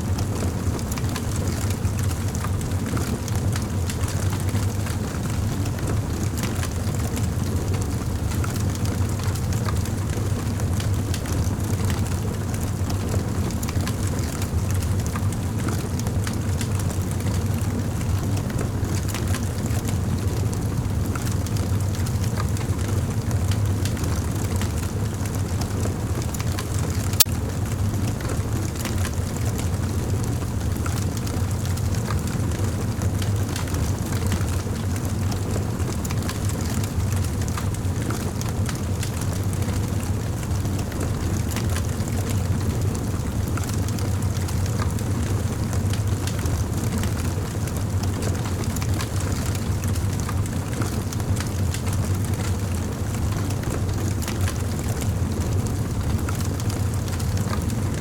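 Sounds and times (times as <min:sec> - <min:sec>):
campfire flames rumbling: 0:00.0 - 0:58.0.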